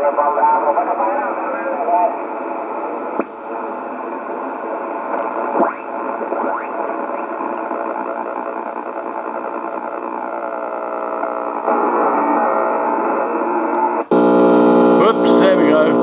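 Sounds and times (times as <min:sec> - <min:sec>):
buzzy interference noise: 0:00.0 - 0:16.0
radio receiver hiss: 0:00.0 - 0:16.0.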